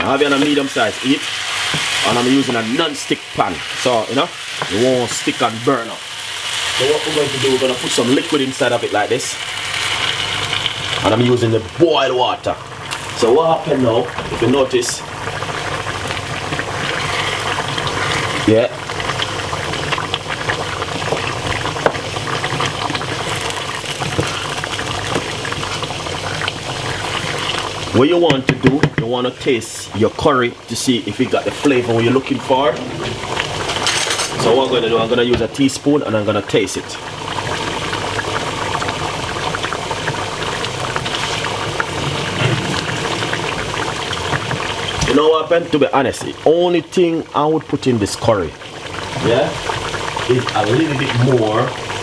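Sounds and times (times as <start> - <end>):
curry bubbling and popping: 0.0 - 52.0.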